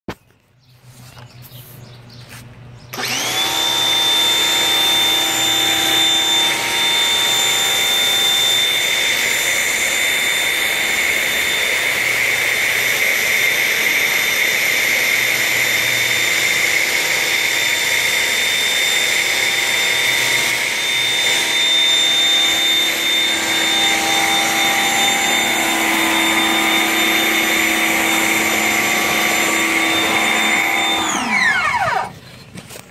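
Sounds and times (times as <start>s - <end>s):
pressure washer motor whine: 2.9s - 32.2s.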